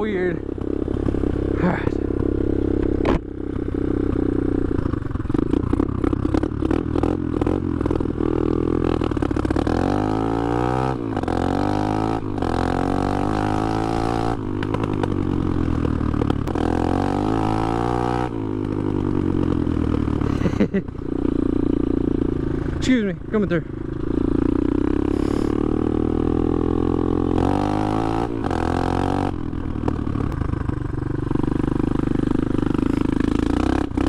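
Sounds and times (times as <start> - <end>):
dirt bike engine revving: 0.0 - 15.5, 16.1 - 30.0, 31.6 - 34.0.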